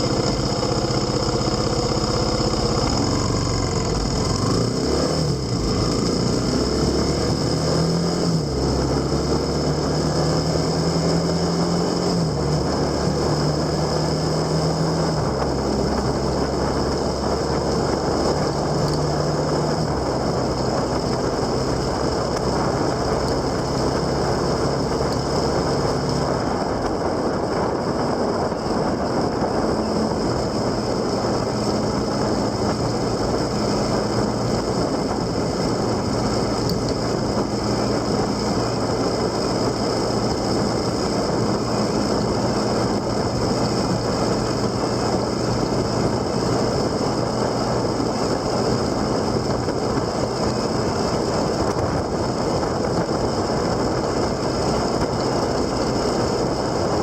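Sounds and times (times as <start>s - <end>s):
motorcycle engine: 0.0s - 57.0s
wind and road noise: 0.0s - 57.0s.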